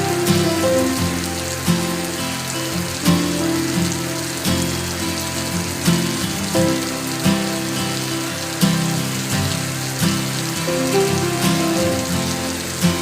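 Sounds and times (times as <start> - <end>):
background music with low chords: 0.0 - 13.0
heavy rain falling: 0.0 - 13.0.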